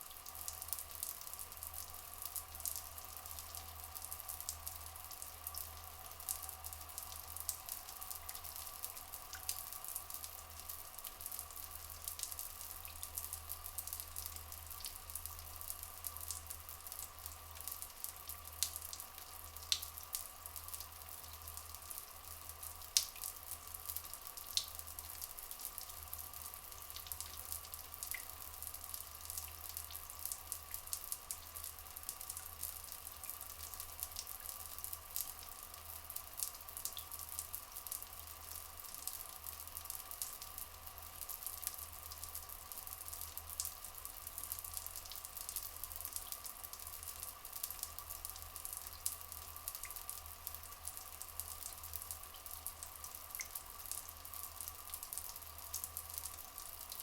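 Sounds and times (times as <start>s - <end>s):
water dripping and splashing: 0.0s - 57.0s.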